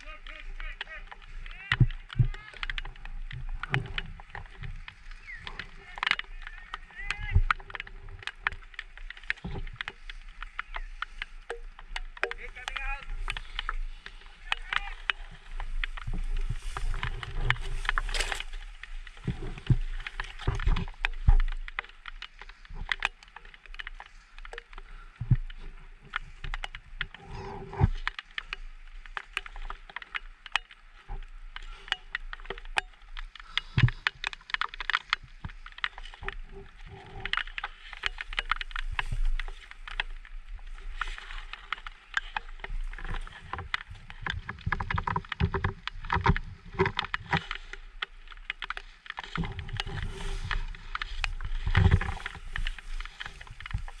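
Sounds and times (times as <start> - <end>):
crackles and clicks: 0.0 - 54.0
grass rustling against microphone: 0.0 - 54.0.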